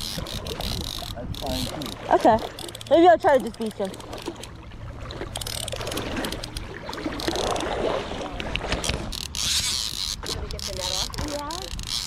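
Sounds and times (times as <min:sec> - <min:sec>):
fly reel clicking: 0:00.0 - 0:04.5, 0:05.3 - 0:07.7, 0:08.7 - 0:12.0.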